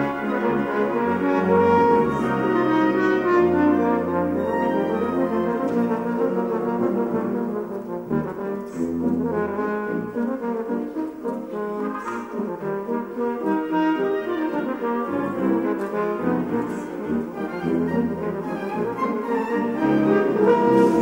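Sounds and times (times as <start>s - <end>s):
concert wind band: 0.0s - 21.0s
french horn solo: 0.0s - 21.0s.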